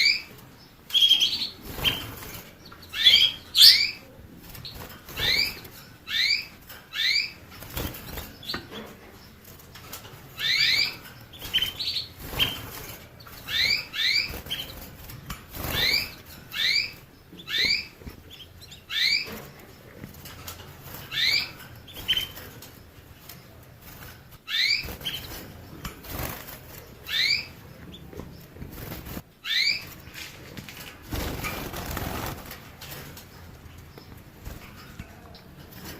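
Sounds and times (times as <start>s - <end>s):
finch chirping: 0.0s - 30.3s.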